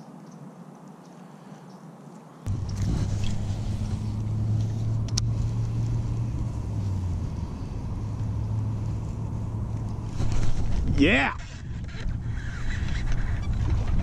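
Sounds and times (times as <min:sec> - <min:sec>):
faint outdoor noise: 0:00.0 - 0:14.0
low mechanical hum: 0:02.5 - 0:14.0.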